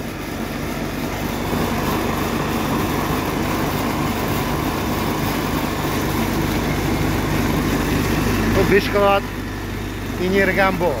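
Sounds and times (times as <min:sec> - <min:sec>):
motor and generator hum: 0:00.0 - 0:11.0.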